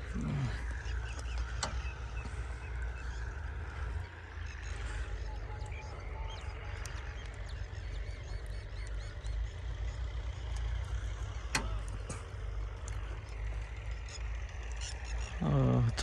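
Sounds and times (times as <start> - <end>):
faint bird chirps: 0.0 - 16.0
tractor diesel engine rumbling: 0.0 - 16.0.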